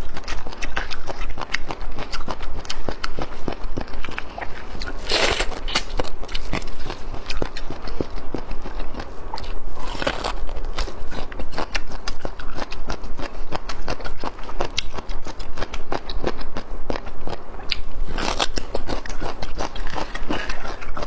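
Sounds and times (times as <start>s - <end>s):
crisp crunching and chewing: 0.0s - 21.0s.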